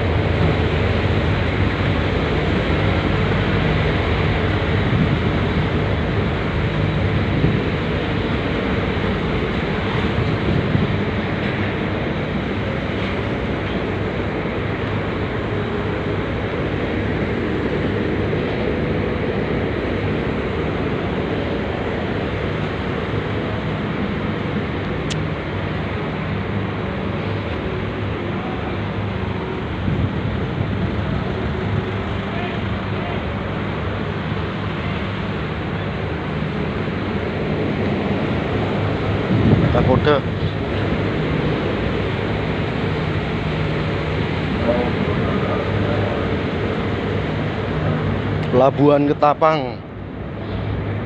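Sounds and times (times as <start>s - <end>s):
constant rushing noise: 0.0s - 51.0s
ship engines droning: 0.0s - 51.0s.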